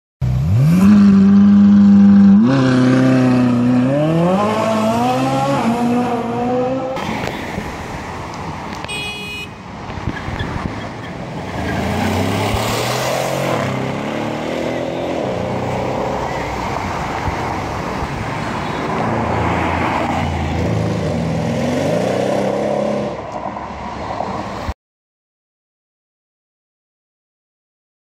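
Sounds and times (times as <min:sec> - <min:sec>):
road traffic: 0:00.2 - 0:24.8
car engine passing: 0:00.5 - 0:08.8, 0:09.6 - 0:24.7.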